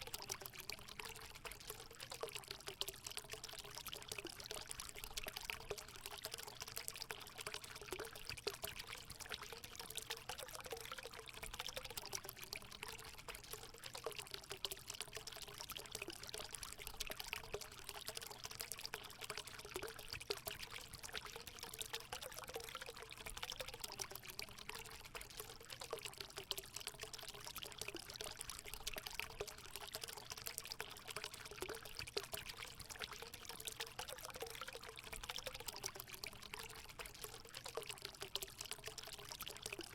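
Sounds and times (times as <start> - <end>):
faint wavering gurgle: 0.0 - 39.9
water splashing trickle: 0.0 - 39.9.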